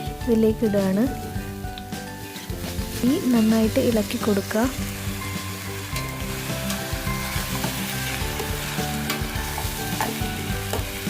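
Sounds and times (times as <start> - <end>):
rice sizzling in hot oil: 0.0 - 11.0.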